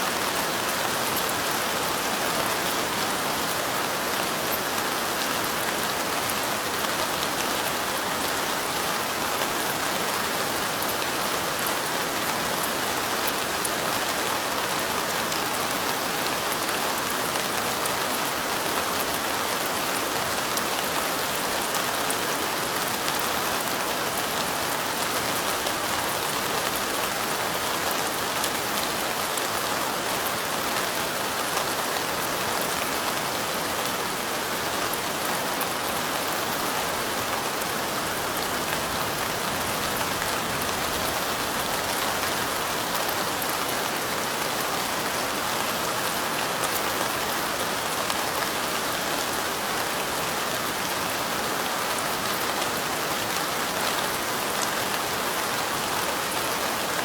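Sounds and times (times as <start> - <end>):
light rain: 0.0 - 57.0.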